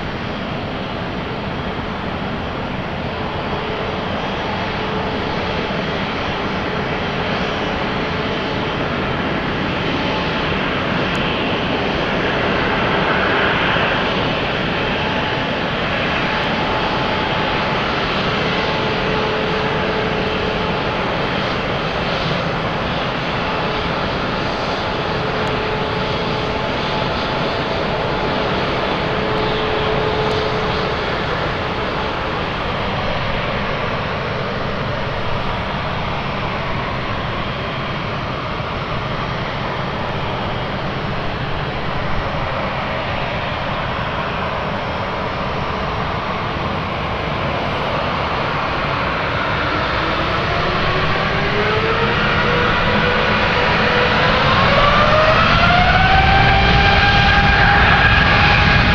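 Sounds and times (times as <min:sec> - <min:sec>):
aircraft engines rushing: 0:00.0 - 0:58.9.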